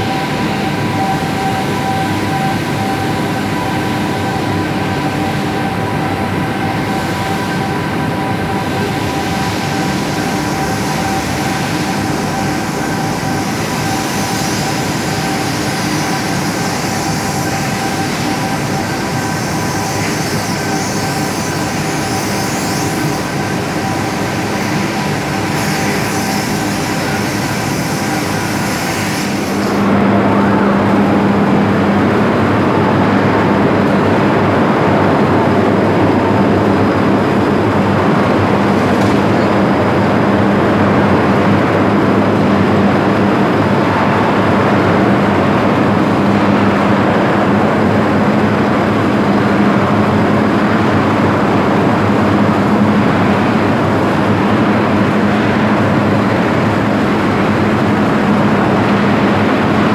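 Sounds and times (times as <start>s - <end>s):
crane mechanical noise: 0.0s - 59.9s.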